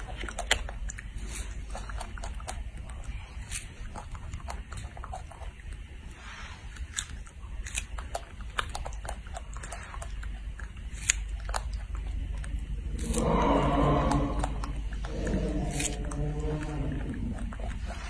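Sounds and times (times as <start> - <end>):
monkey chewing wet mouth clicks: 0.0 - 13.2, 14.1 - 18.0
steady low hum: 0.0 - 18.0.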